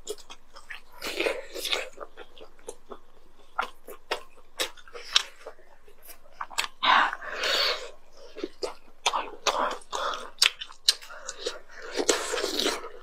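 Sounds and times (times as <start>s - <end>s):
chewing and biting food: 0.0s - 13.0s.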